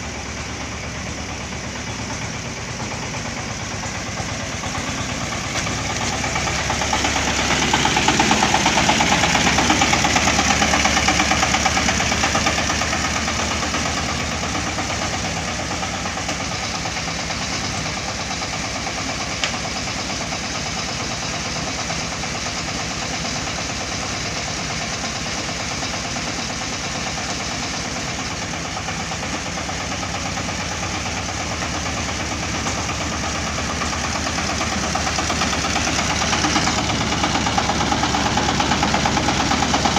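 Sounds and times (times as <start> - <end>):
harvester engine throbbing: 0.0 - 39.9.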